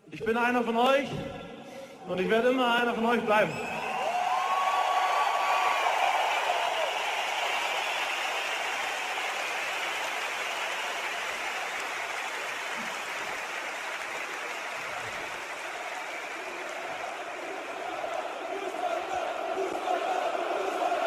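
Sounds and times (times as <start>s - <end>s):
stadium crowd applauding and cheering: 3.4s - 21.0s.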